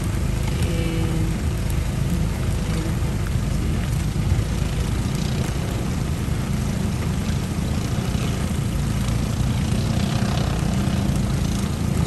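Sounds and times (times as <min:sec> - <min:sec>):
continuous low rumble: 0:00.0 - 0:12.0
steady rain hissing: 0:00.0 - 0:12.0.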